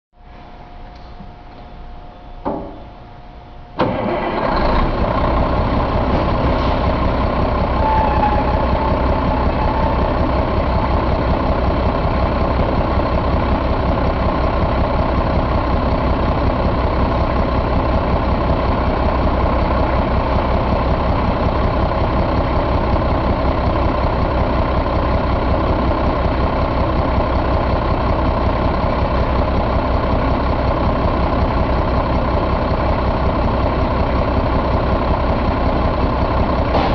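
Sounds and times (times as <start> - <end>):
diesel engine starting and idling: 2.5 - 36.9.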